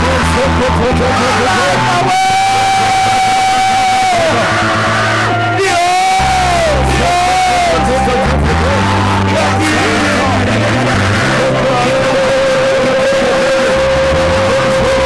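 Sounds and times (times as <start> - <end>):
bass line: 0.0 - 15.0
voices singing and calling out: 0.0 - 15.0
worship band playing: 0.0 - 15.0.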